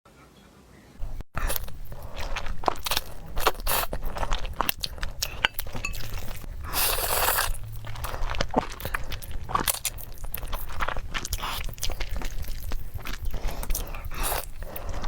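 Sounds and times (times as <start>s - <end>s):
crunchy chewing: 1.0s - 15.0s.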